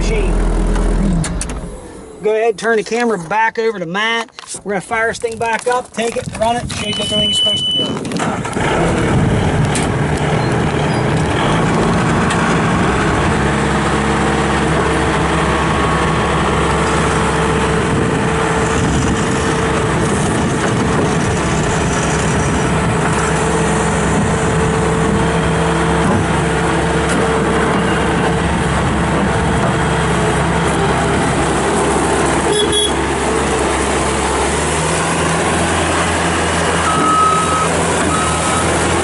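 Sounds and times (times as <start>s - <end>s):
diesel engine running: 0.0s - 3.5s, 5.2s - 39.0s.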